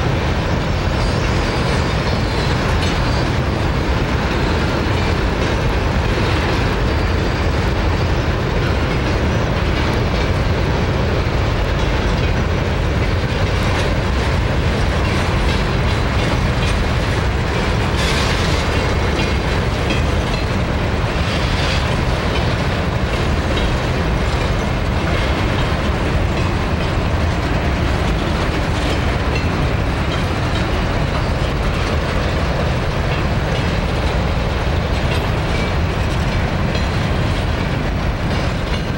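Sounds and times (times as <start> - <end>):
freight train rolling past: 0.0 - 38.9
steel wheels rumbling on rails: 0.0 - 38.9.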